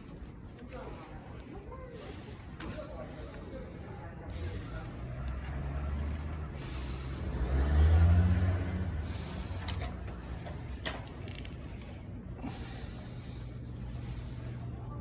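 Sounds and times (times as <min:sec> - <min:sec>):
vehicle engine rumble: 0:02.0 - 0:15.0.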